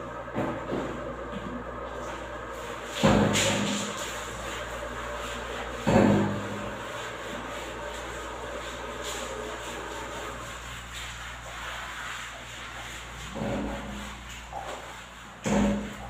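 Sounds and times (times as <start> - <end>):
sponge scrubbing glass: 1.8 - 16.0.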